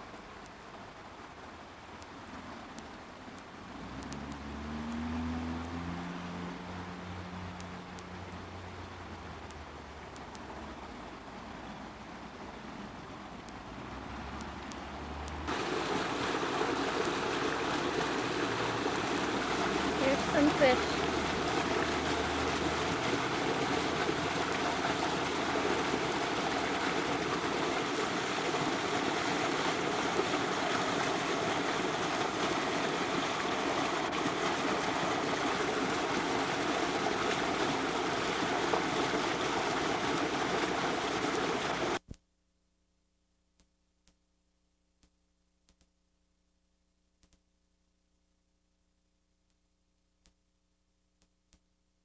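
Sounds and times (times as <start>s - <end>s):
creek water running: 0.0s - 42.0s.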